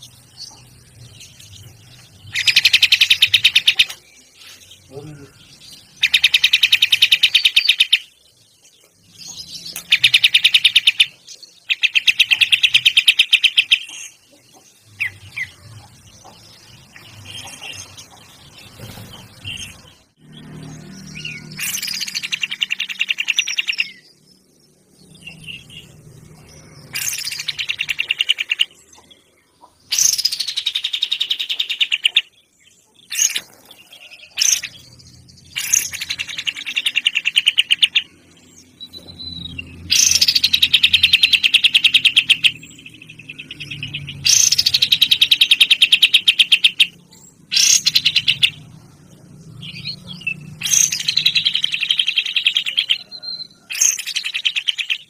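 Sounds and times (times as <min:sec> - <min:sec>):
bird singing rapid trills: 0:00.0 - 0:55.0
soft bird chirps: 0:00.0 - 0:55.0.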